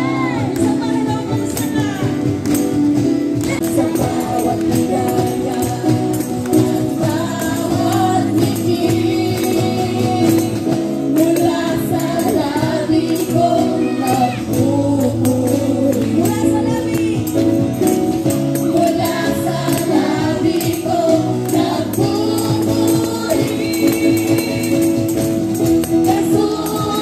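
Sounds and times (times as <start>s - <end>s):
acoustic guitar: 0.0s - 27.0s
keyboard: 0.0s - 27.0s
shaken percussion beat: 0.0s - 27.0s
voices singing together: 3.4s - 17.4s, 18.4s - 27.0s.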